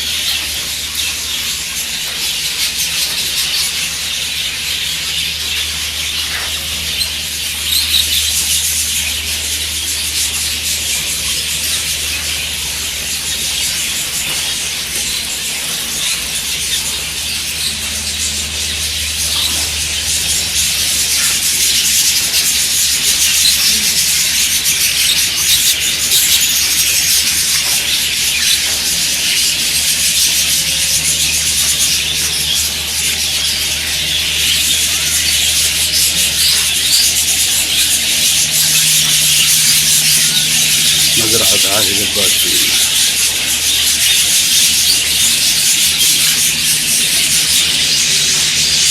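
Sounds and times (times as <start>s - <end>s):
budgerigar flock chattering: 0.0s - 48.9s
steady low hum: 0.0s - 48.9s.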